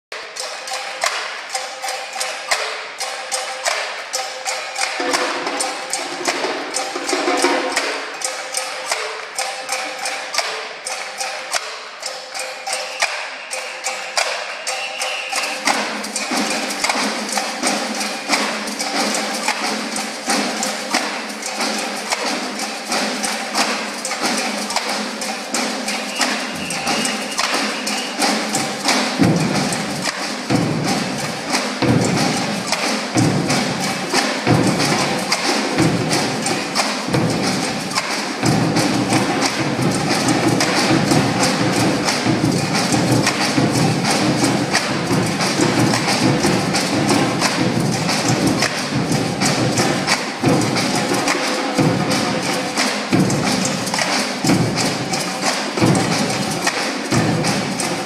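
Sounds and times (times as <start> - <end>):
percussion ensemble drumming: 0.1 - 58.0.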